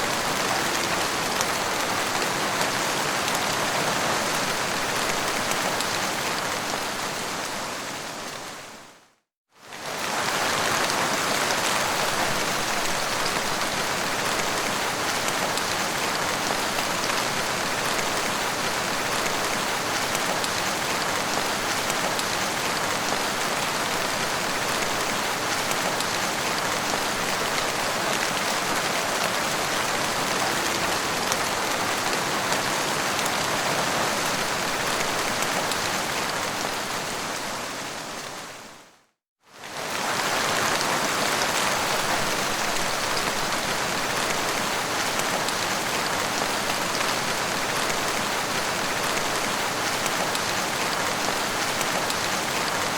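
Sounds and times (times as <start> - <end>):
heavy rain falling: 0.0 - 8.7, 9.7 - 38.8, 39.6 - 52.9.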